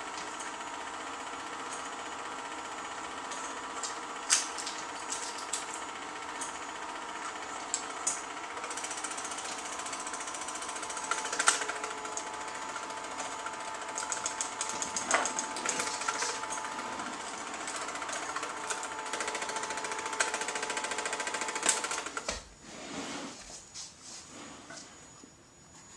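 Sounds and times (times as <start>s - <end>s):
film projector clatter: 0.0s - 22.4s
projector whine: 0.0s - 25.9s.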